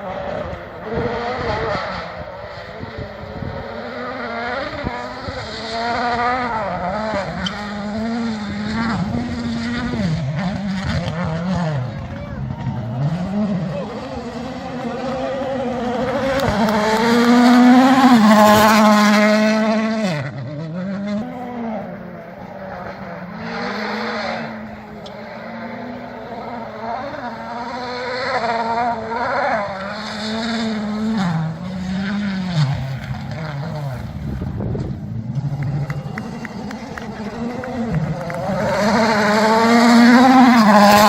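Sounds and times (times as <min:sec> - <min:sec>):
rally car engine at full throttle: 0:00.0 - 0:41.0.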